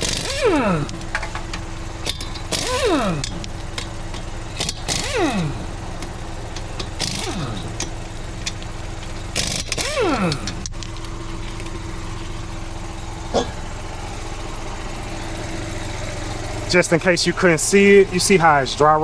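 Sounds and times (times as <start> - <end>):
engine hum: 0.0 - 19.0
impact wrench bursts: 0.0 - 19.0.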